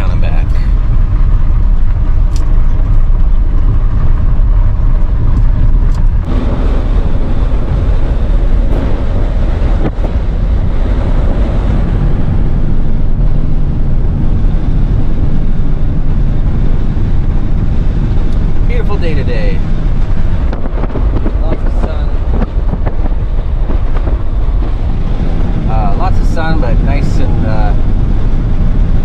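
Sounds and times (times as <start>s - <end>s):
engine and road rumble: 0.0s - 29.0s
wind buffeting microphone: 0.0s - 29.0s.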